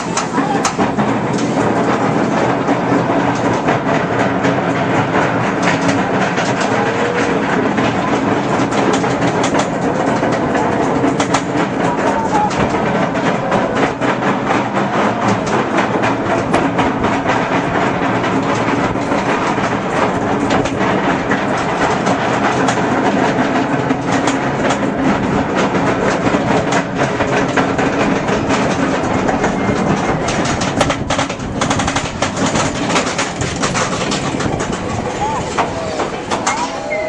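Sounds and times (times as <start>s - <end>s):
roller coaster clattering on track: 0.0s - 37.0s.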